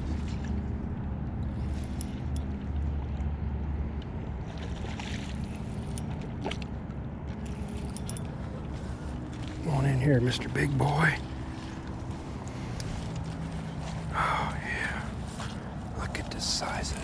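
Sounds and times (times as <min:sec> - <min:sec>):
boat engine hum and rumble: 0:00.0 - 0:17.0.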